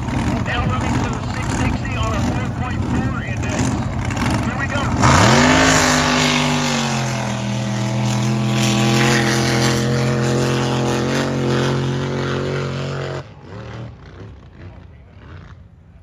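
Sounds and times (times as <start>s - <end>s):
drag boat engine at full throttle: 0.0s - 15.0s.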